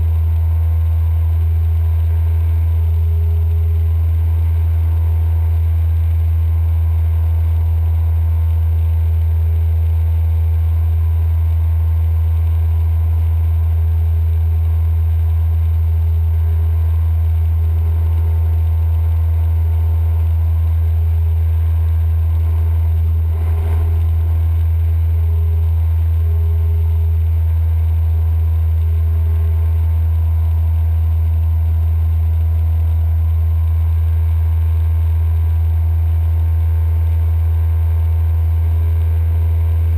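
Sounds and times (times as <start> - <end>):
propeller aircraft engine droning: 0.0 - 39.9.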